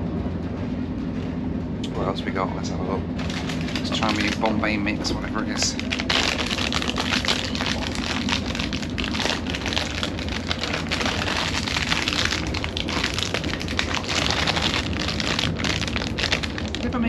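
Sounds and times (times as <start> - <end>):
train rumble: 0.0 - 17.0
plastic snack packet crinkling: 3.2 - 17.0.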